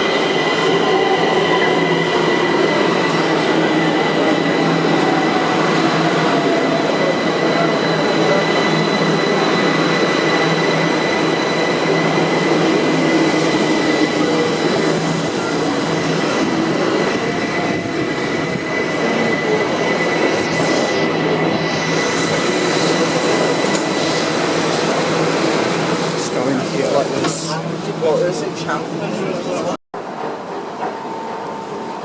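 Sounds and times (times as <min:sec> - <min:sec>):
high whine: 0:00.0 - 0:26.8.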